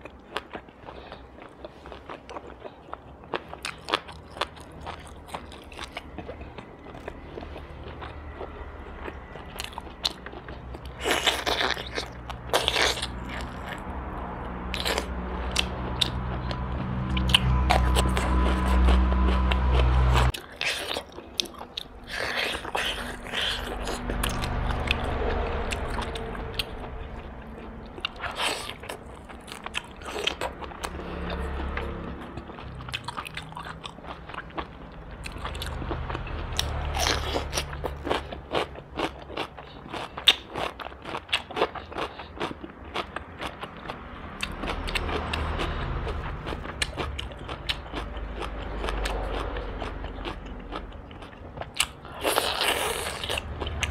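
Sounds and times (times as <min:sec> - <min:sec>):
biting and chewing crunches: 0:00.0 - 0:13.9, 0:14.6 - 0:53.9.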